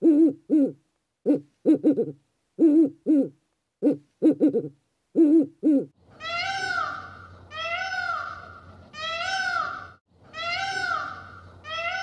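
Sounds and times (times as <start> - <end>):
owl hooting: 0.0 - 12.0.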